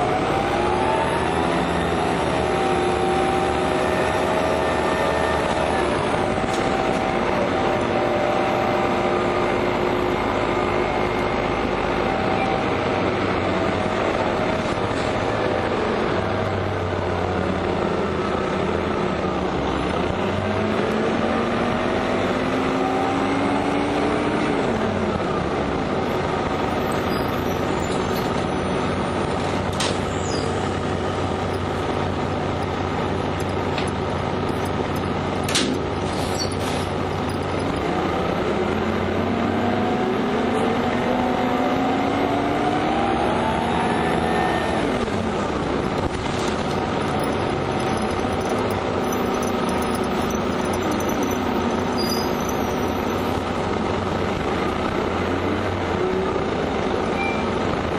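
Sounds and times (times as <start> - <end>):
diesel bus engine running: 0.0 - 57.9
road noise: 0.0 - 57.9.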